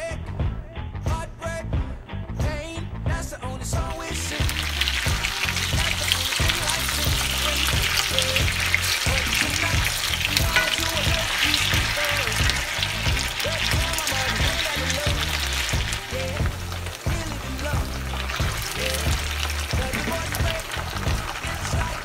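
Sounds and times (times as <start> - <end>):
potatoes sizzling in hot oil: 3.9 - 22.0
wooden spatula turning food: 4.1 - 22.0.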